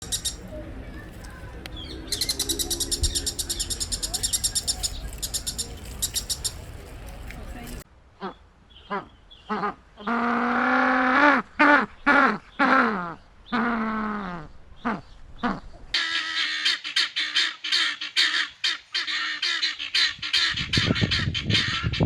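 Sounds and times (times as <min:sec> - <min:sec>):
waterfowl calling: 0:00.0 - 0:00.5, 0:01.2 - 0:22.0.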